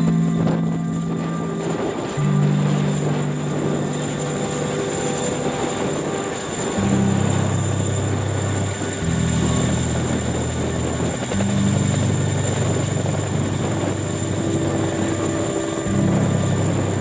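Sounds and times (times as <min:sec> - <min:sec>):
helicopter engine and rotor drone: 0:01.2 - 0:17.0.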